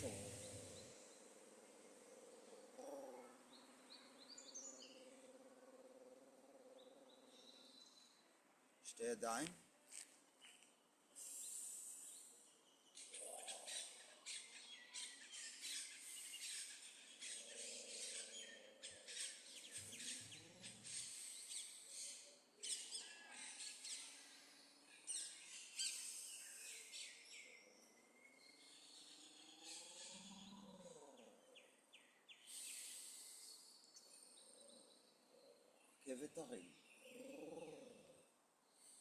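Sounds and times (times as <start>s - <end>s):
birds chirping faintly: 0.0s - 39.0s.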